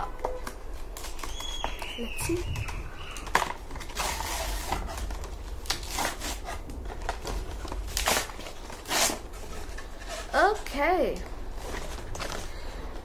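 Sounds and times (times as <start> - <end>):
packaging rustling and crackling: 0.2 - 13.0.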